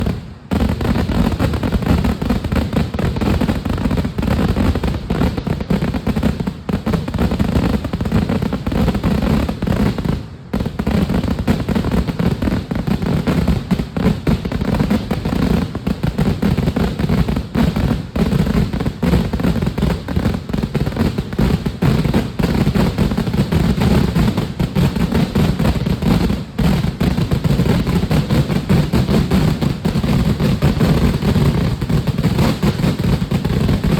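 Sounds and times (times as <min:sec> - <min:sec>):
firecracker explosions: 0:00.0 - 0:33.9.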